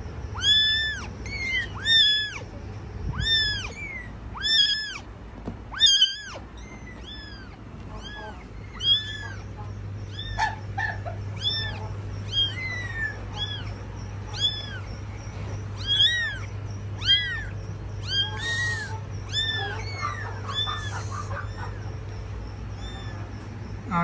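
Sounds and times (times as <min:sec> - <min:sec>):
kittens mewing: 0:00.0 - 0:24.0.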